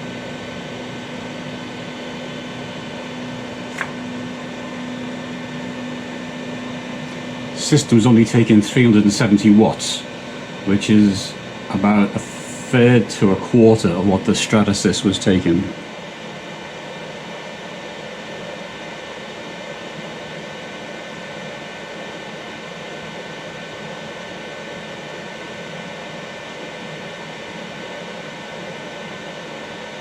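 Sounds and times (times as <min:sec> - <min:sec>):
faint constant whining tones: 0:00.0 - 0:30.0
printer cooling fans whirring: 0:00.0 - 0:30.0.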